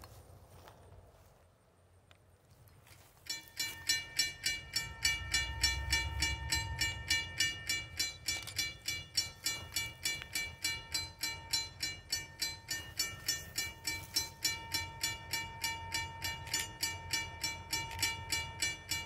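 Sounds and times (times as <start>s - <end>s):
crossing bell ringing: 3.0s - 19.0s.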